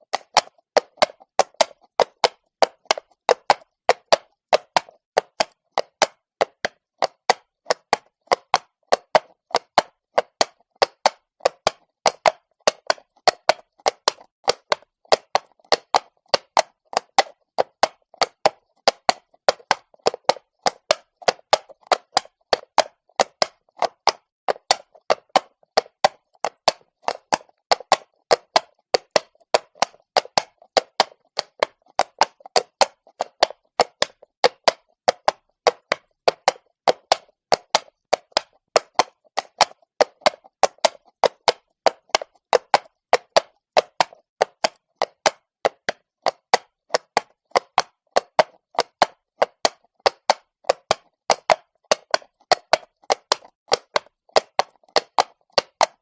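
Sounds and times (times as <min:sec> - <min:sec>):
horse hooves on cobblestone: 0:00.0 - 0:56.0.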